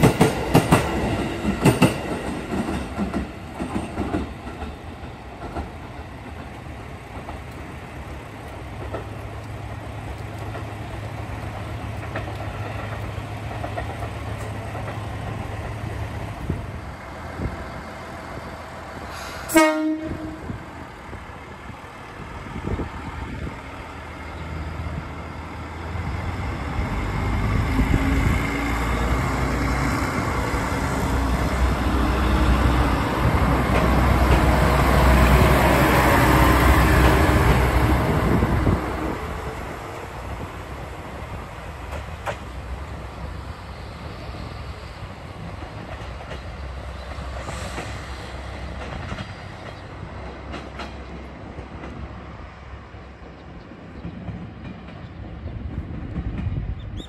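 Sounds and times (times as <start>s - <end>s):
train running: 0.0s - 57.0s.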